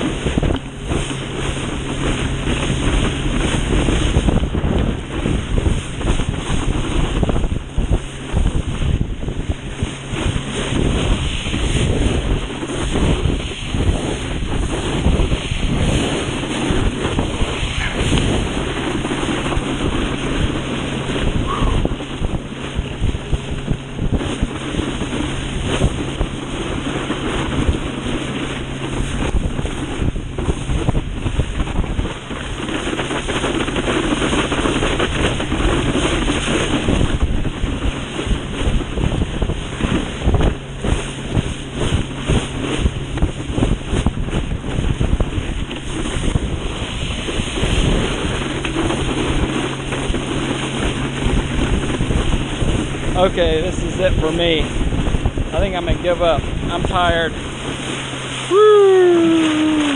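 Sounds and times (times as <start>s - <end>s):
water rushing and spraying: 0.0s - 59.9s
wind buffeting microphone: 0.0s - 59.9s.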